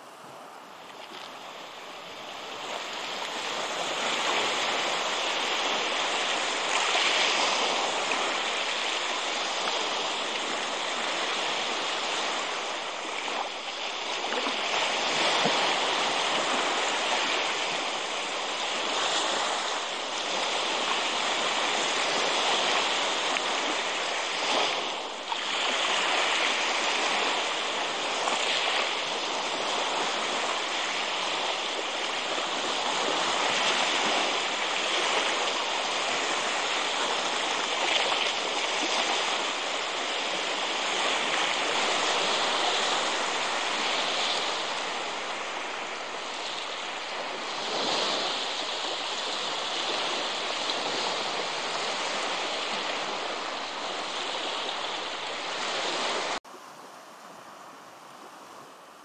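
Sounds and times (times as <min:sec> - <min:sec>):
surf on sandy beach: 0:00.0 - 0:59.0.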